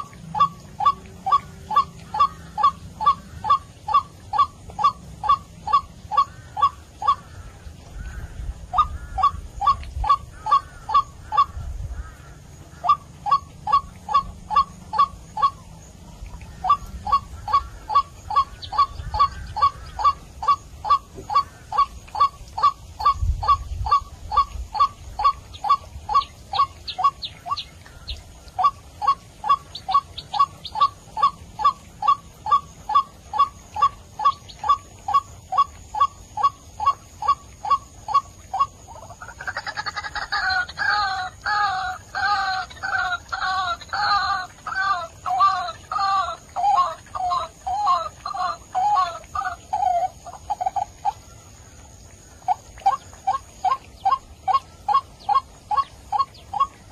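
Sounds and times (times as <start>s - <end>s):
bird call notes: 0.0s - 7.4s, 8.0s - 51.4s.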